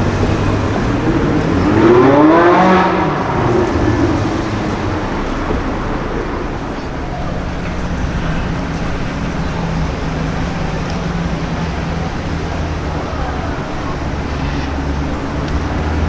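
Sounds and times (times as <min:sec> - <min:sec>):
sports car accelerating past: 0:00.0 - 0:16.0
street traffic: 0:00.0 - 0:16.0.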